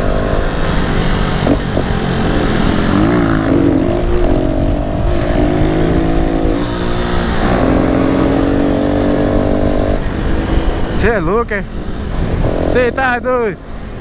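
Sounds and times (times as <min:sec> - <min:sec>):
motorcycle engine under throttle: 0:00.0 - 0:13.6.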